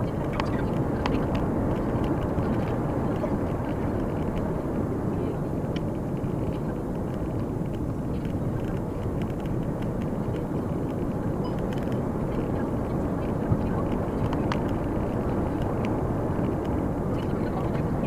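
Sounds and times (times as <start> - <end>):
car engine running: 0.0 - 18.0
tyres rumbling on road: 0.0 - 18.0
faint clicks and rattles: 0.1 - 18.0.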